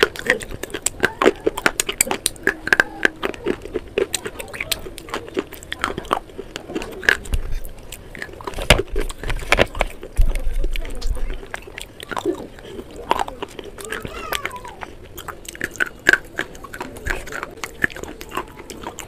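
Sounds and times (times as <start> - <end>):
slate pencils crunching in teeth: 0.0 - 19.0.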